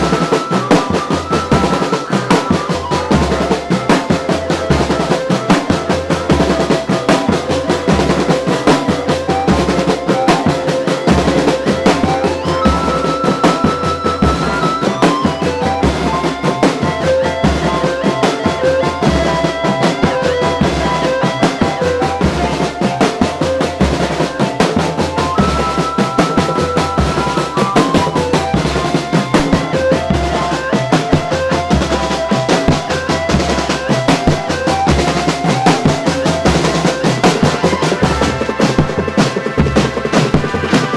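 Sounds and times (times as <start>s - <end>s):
marching drum band: 0.0s - 40.9s
stepped tune: 0.0s - 40.9s.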